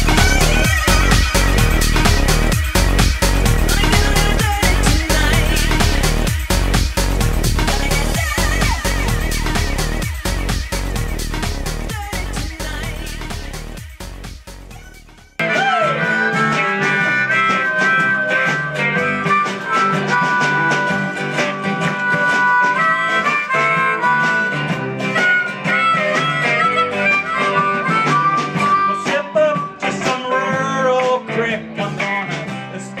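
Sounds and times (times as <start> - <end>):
harmonica melody: 0.0 - 13.8, 15.4 - 30.6
blues band playing: 0.0 - 14.8, 15.4 - 33.0.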